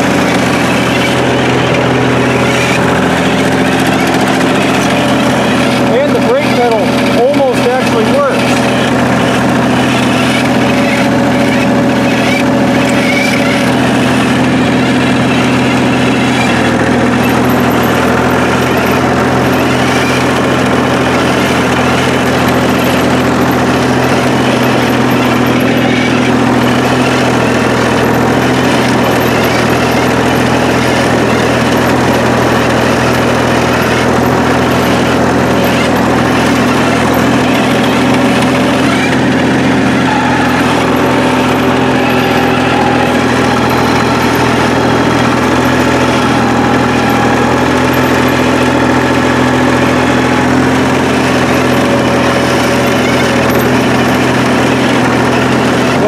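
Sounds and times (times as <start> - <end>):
dozer engine running: 0.0 - 56.0.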